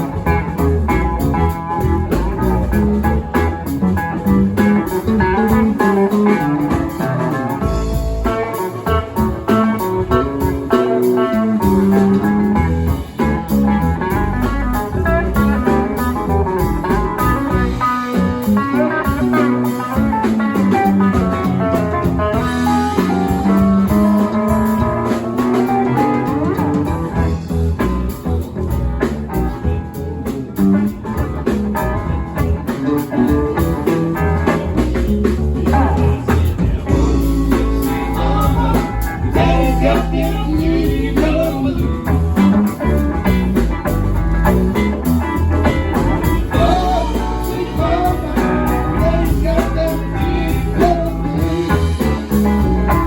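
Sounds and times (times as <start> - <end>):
drums: 0.0 - 53.0
guitar lines: 0.0 - 53.0.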